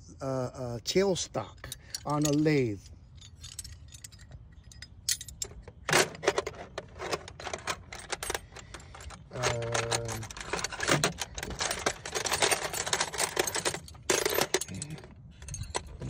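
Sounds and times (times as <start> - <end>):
metal tools clinking in drawer: 1.5 - 16.0.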